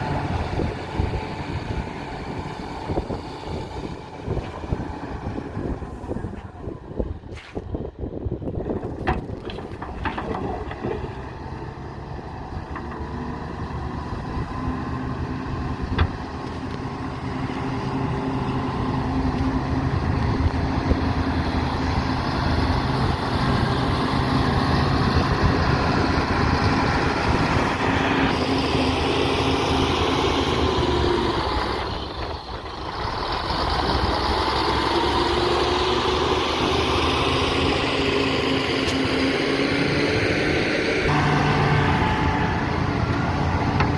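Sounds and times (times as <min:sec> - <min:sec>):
heavy machinery diesel engine: 0:00.0 - 0:43.9.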